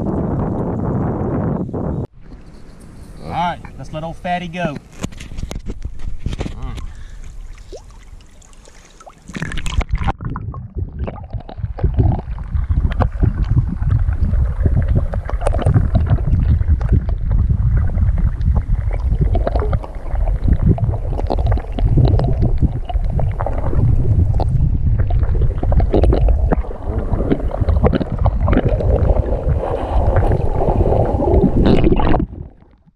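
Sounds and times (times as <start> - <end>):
underwater water sloshing: 2.1 - 32.9.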